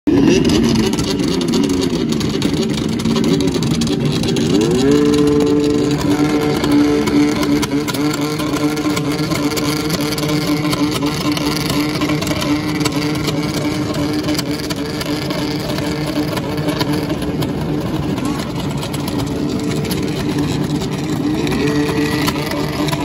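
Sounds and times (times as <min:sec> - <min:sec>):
two-stroke snowmobiles running: 0:00.1 - 0:23.0.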